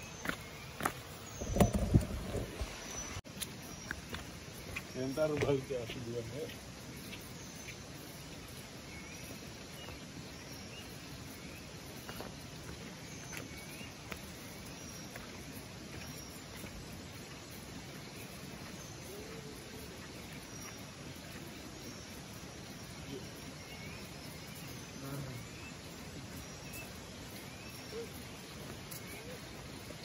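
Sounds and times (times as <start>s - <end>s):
footsteps on dirt path: 0.0s - 7.9s, 9.2s - 30.0s
forest ambient hiss: 0.0s - 30.0s.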